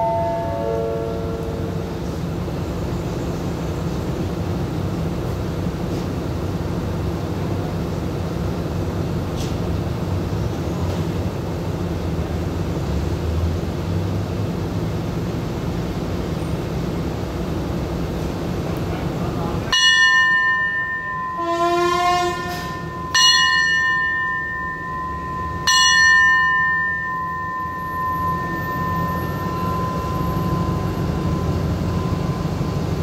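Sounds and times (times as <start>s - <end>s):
diesel train engine idling: 0.0s - 33.0s.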